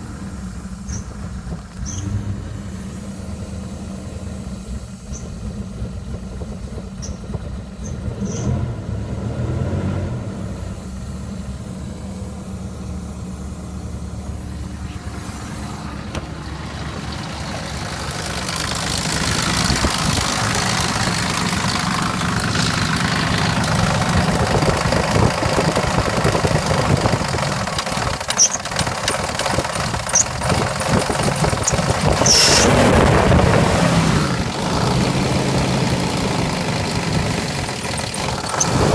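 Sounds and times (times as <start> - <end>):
engine running with tapping and rattling: 0.0 - 38.9.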